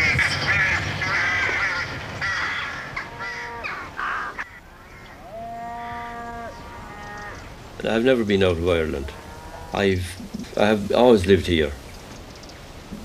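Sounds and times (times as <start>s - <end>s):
harsh bird calls: 0.0s - 13.0s
long drawn-out calls: 0.0s - 13.0s.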